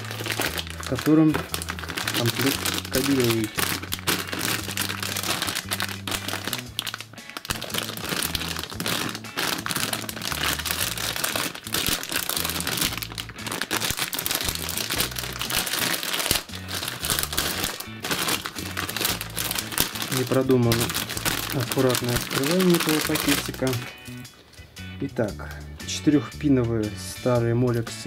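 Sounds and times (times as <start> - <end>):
plastic bag crinkling: 0.0 - 24.0
background music with bass line: 0.0 - 28.0.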